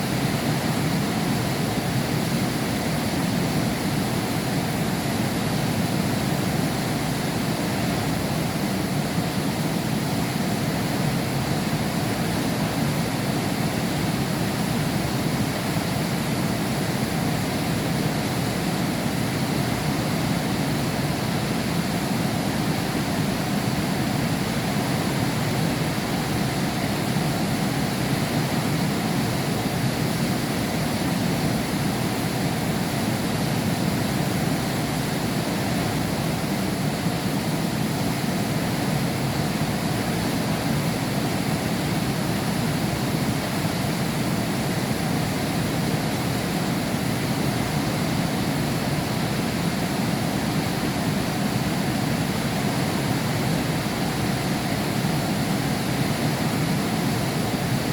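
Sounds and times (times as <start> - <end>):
heavy rain behind window glass: 0.0 - 57.9.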